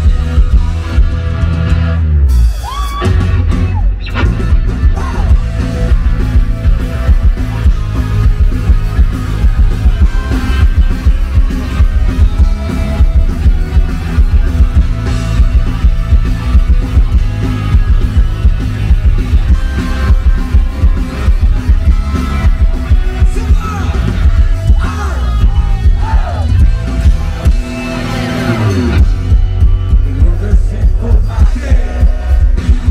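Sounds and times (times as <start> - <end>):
rock band playing live: 0.0 - 32.9.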